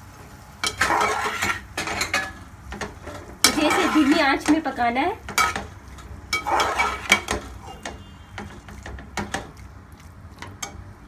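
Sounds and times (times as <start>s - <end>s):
spoon stirring in a pan: 0.6s - 11.0s.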